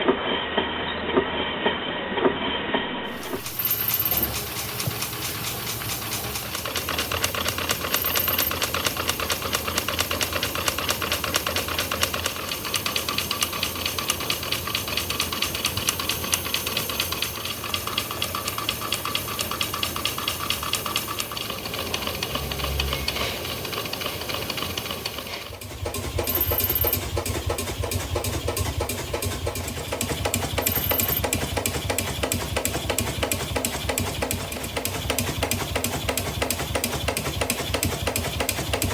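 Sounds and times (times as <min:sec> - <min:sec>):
small engine with deeper beat: 0:03.1 - 0:38.9
small model engine running: 0:03.1 - 0:38.9.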